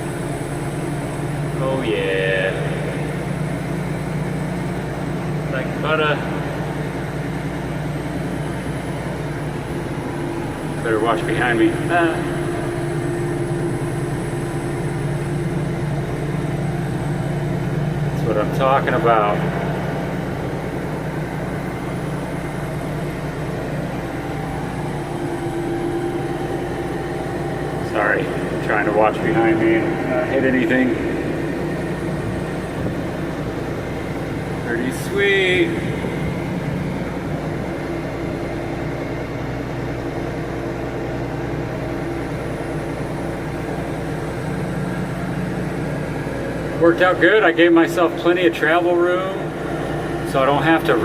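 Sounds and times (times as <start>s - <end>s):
tractor engine under load: 3.2s - 51.0s.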